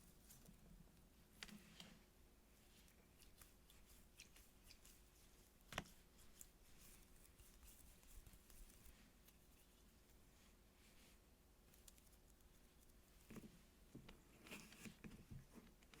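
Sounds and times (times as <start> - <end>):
light scratches and crinkles: 0.0 - 16.0.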